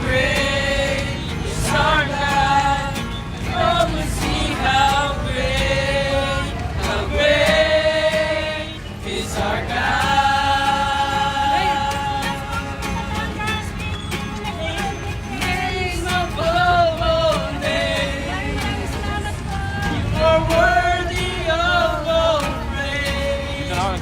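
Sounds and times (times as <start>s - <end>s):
choir singing slow song: 0.0s - 13.0s, 15.4s - 24.0s.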